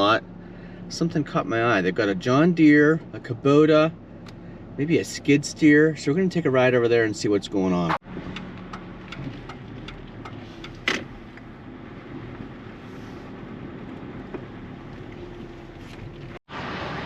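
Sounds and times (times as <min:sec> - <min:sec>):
truck engine and road noise: 0:00.0 - 0:17.0.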